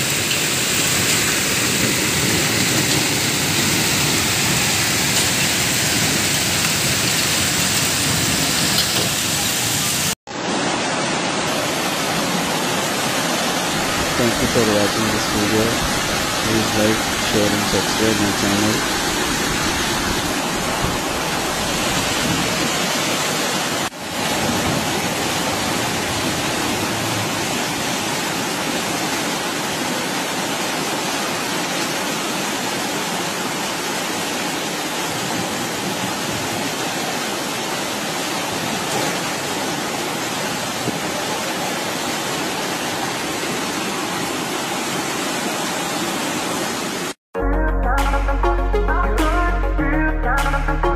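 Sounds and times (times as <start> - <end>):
floodwater rushing: 0.0 - 47.2.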